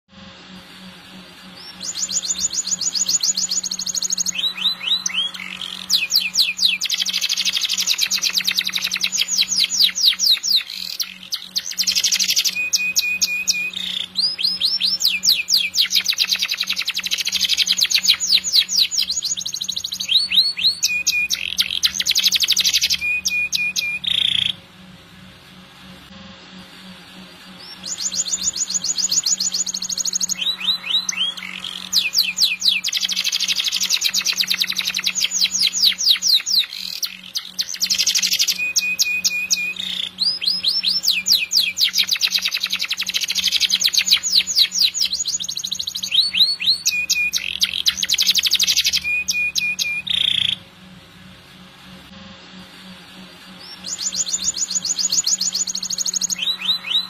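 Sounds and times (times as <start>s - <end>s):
canary singing trills: 1.4s - 24.6s, 27.6s - 50.7s, 53.6s - 57.0s.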